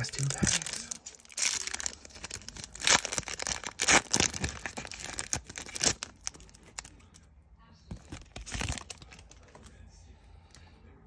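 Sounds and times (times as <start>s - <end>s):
foil wrapper crinkling and tearing: 0.0s - 7.2s, 7.9s - 9.7s.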